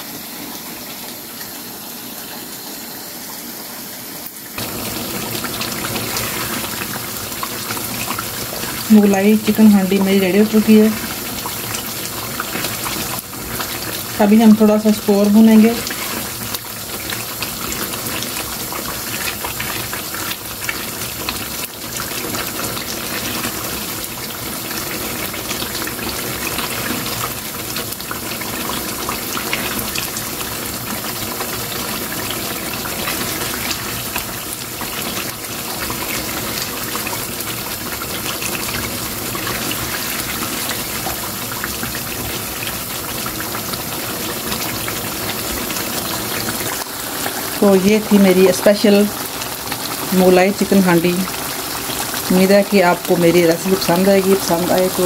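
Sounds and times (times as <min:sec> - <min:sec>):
gravy sizzling in a frying pan: 0:00.0 - 0:55.0.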